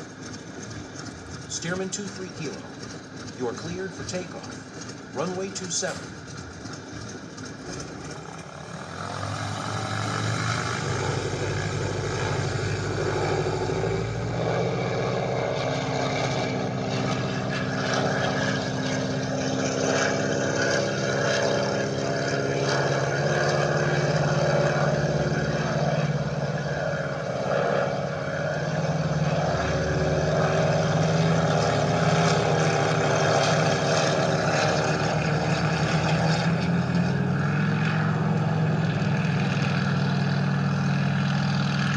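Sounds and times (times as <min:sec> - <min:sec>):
biplane radial engine: 0:00.0 - 0:41.9
propeller drone: 0:00.0 - 0:41.9.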